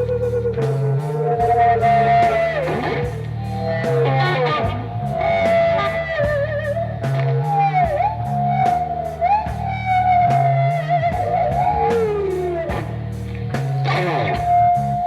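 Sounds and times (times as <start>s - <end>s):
bass guitar: 0.0s - 15.0s
electric guitar solo: 0.0s - 15.0s
steady drum beat: 0.0s - 15.0s.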